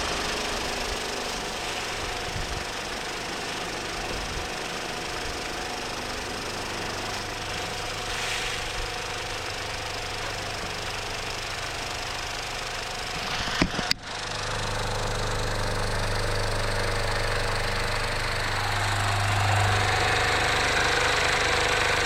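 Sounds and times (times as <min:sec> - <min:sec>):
motor humming with hiss: 0:00.0 - 0:22.0.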